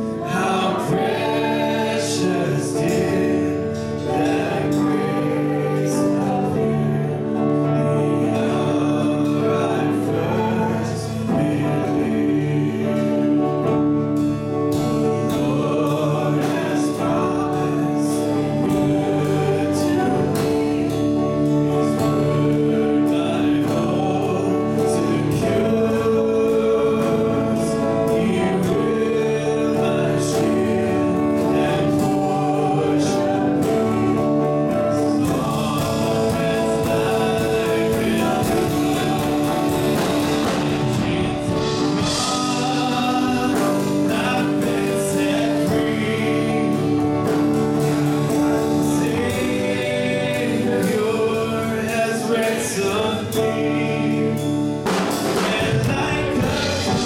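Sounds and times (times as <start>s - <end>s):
drums: 0.0s - 57.0s
electric and acoustic guitars: 0.0s - 57.0s
man singing: 0.0s - 57.0s.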